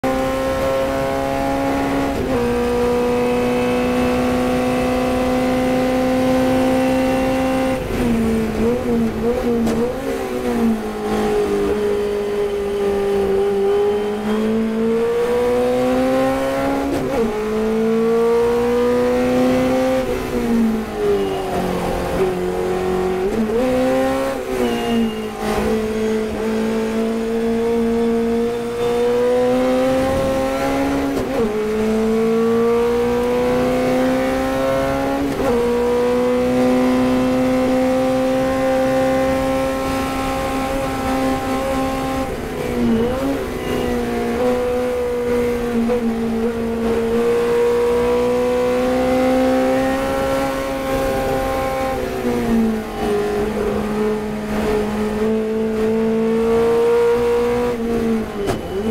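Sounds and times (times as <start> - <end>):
race car engine: 0.0 - 58.9.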